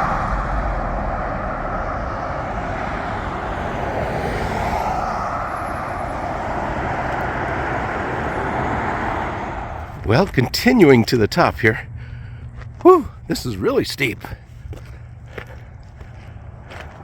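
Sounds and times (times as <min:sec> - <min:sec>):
road traffic noise: 0:00.0 - 0:17.0
vehicle passing: 0:00.0 - 0:17.0.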